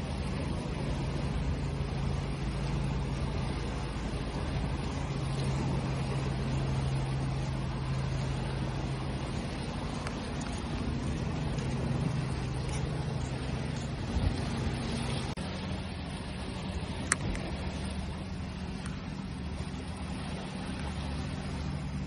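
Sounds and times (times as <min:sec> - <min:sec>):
engine humming: 0:00.0 - 0:22.0
ocean waves rushing: 0:00.0 - 0:22.0.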